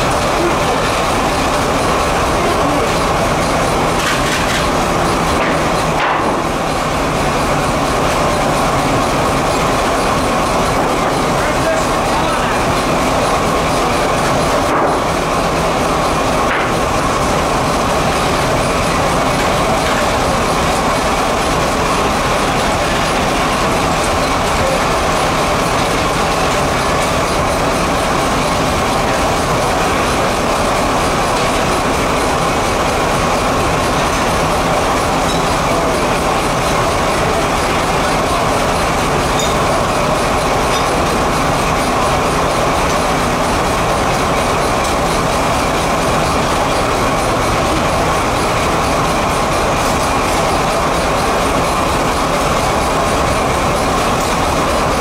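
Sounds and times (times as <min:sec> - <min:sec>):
sawmill machinery din: 0:00.0 - 0:55.0.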